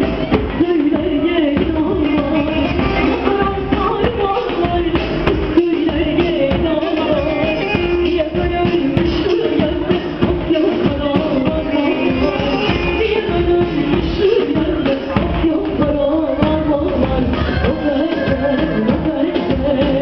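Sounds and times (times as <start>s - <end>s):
dance music over loudspeakers: 0.0s - 20.0s
person singing: 0.0s - 20.0s.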